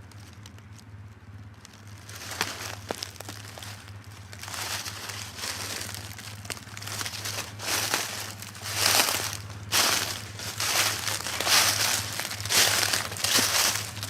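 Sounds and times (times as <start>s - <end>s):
footsteps through dry brush: 1.4s - 14.0s.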